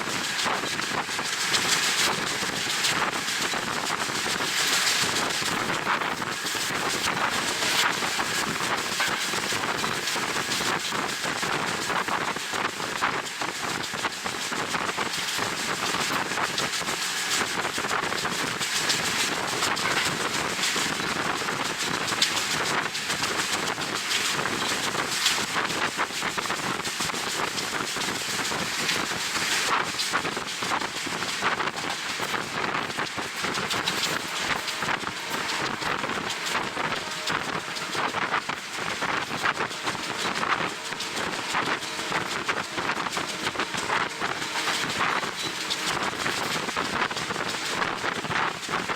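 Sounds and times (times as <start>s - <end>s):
train running noise: 0.0s - 48.9s.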